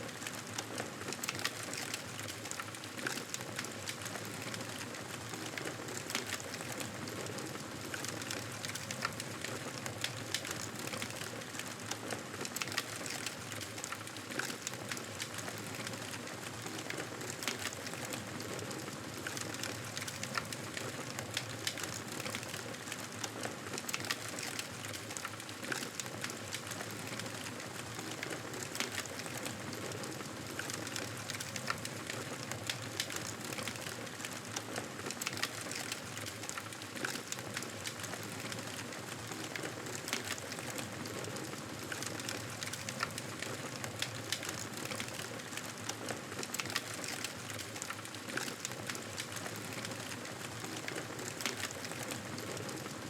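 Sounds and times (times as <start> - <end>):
wood fire crackling: 0.1 - 53.0.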